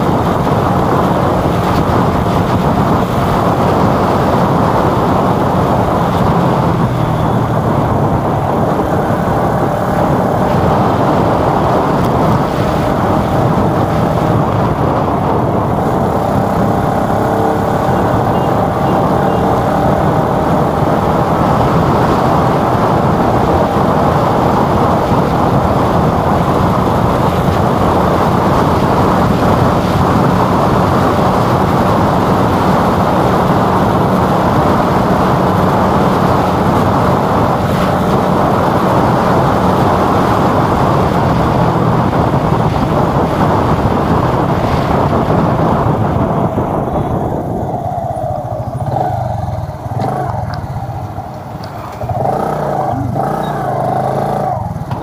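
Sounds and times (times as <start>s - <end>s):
vehicle engine running: 0.0s - 55.0s
wind on microphone: 0.0s - 55.0s.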